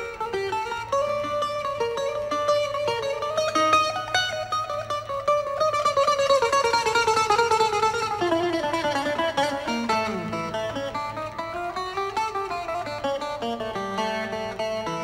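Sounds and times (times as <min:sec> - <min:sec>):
bouzouki playing fast melody: 0:00.0 - 0:15.0.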